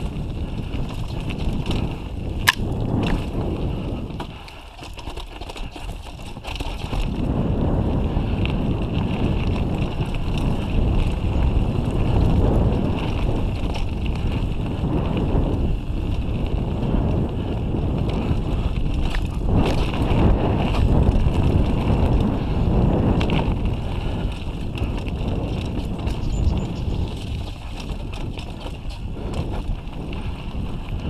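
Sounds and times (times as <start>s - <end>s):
bike tyres and frame rattling: 0.0s - 31.0s
wind rushing over microphone: 0.0s - 31.0s.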